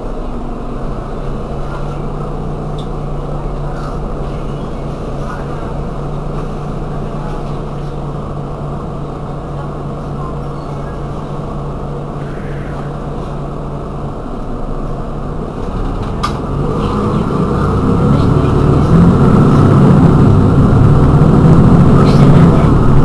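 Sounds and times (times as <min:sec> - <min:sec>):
bus engine idling: 0:00.0 - 0:23.0.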